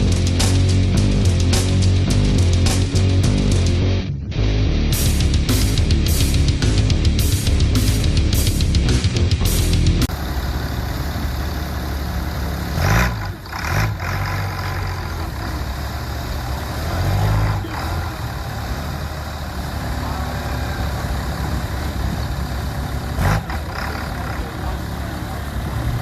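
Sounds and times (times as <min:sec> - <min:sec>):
diesel engine idling and revving: 0:00.0 - 0:26.0.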